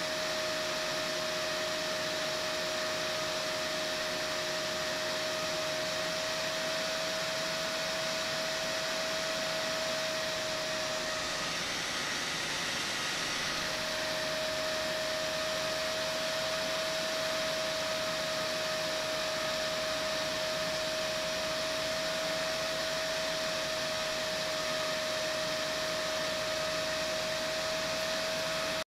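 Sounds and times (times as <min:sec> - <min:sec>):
cooling fan whirring: 0:00.0 - 0:28.8
steady high whine: 0:05.0 - 0:28.8.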